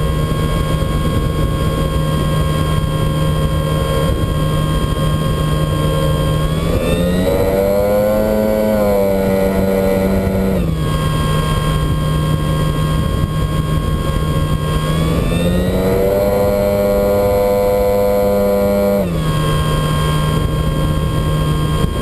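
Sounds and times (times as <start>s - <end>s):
propeller plane engine running: 0.0s - 22.0s
rush of wind: 0.0s - 22.0s.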